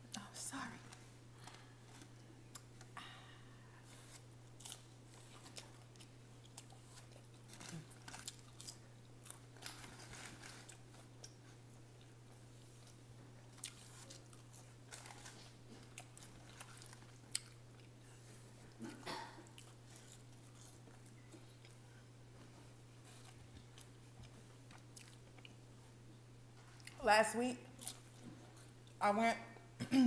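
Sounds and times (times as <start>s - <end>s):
low steady hum: 0.0s - 30.0s
chewing with small crunches: 3.9s - 27.0s, 27.7s - 29.0s.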